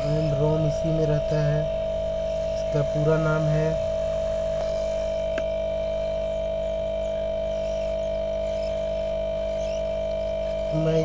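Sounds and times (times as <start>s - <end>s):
electrical hum with high tone: 0.0s - 11.0s.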